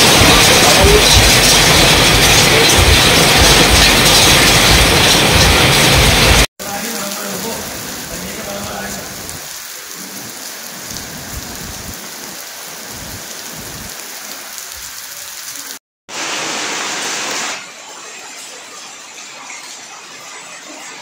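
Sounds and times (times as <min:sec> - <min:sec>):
heavy rain on wet paving: 0:00.0 - 0:20.9.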